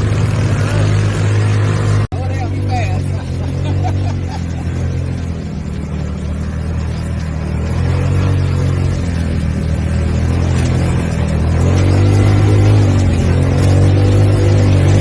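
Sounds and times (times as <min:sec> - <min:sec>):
atv engine droning: 0:00.0 - 0:15.0.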